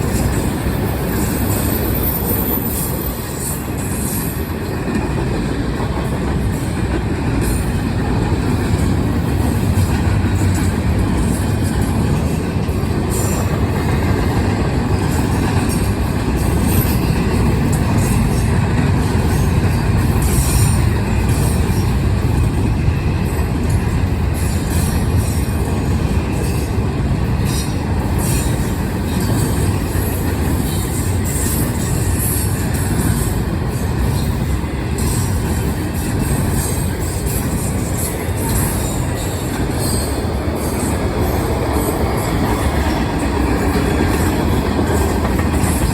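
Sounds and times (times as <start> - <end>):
freight train rumbling past: 0.0 - 45.9
train wheels squeaking and clicking: 0.0 - 45.9.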